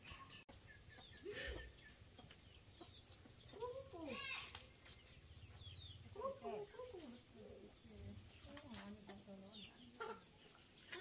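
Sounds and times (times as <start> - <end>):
chickens clucking: 0.0 - 11.0
small birds chirping: 0.0 - 11.0.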